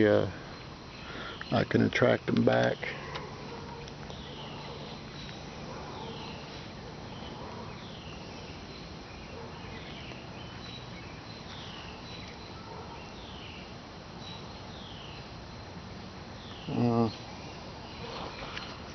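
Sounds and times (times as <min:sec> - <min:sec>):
background noise: 0:00.0 - 0:18.9.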